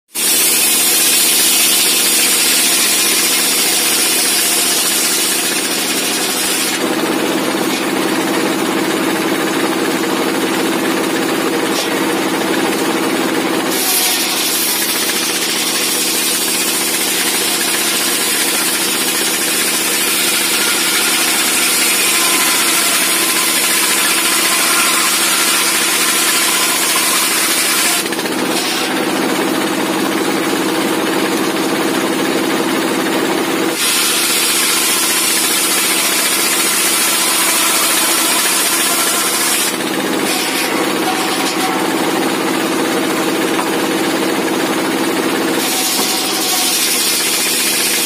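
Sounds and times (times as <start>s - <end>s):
circular saw ripping timber: 0.2s - 48.0s
diesel engine running: 0.8s - 22.6s, 28.0s - 39.0s, 39.6s - 48.0s.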